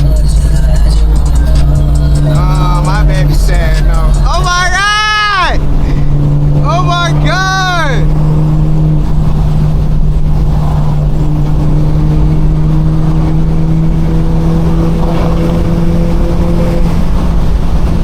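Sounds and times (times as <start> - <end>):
loud car exhaust drone: 0.0 - 18.0.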